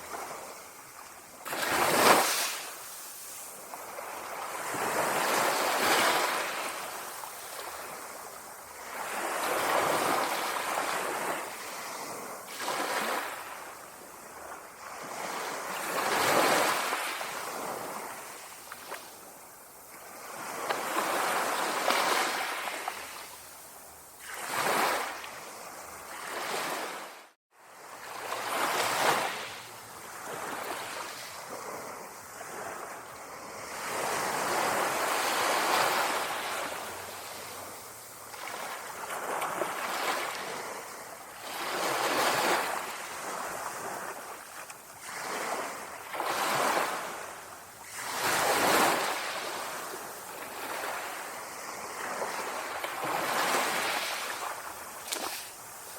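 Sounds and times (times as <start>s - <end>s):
small waves lapping on shore: 0.0s - 55.9s.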